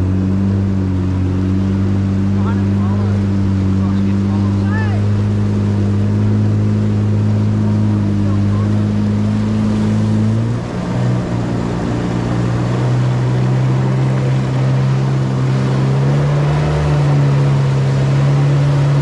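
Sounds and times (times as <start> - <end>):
jet ski engine running: 0.0 - 19.0
water and wind noise: 0.0 - 19.0.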